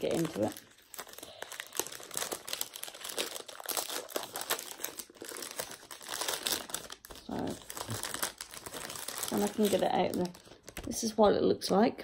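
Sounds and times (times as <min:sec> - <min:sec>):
wrapper crinkling: 0:00.0 - 0:11.2.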